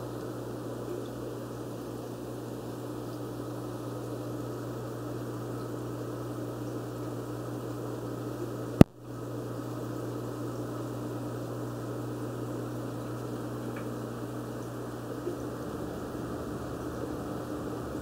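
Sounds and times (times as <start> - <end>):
aquarium filter humming: 0.0 - 18.0.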